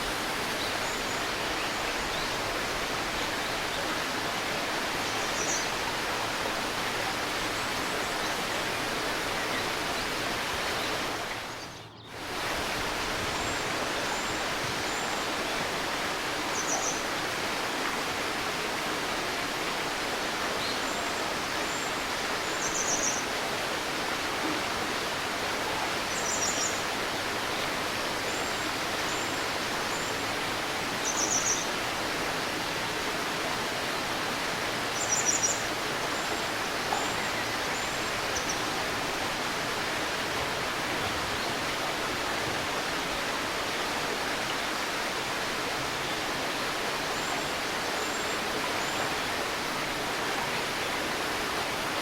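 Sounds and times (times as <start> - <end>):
river rushing: 0.0 - 52.0.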